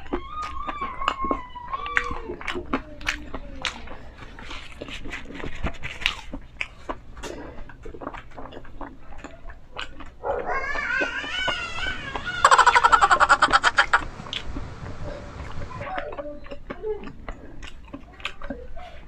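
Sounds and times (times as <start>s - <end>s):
chewing and lip-smacking: 0.0s - 19.0s.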